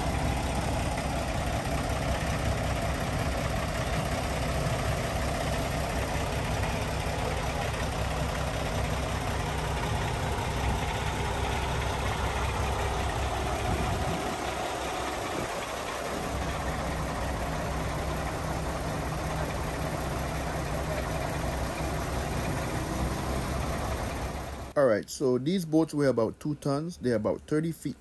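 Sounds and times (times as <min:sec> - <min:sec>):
diesel truck engine idling: 0:00.0 - 0:27.9.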